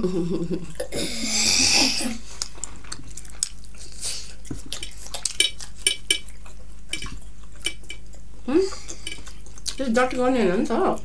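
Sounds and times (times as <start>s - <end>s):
person chewing sausage: 0.7s - 9.8s.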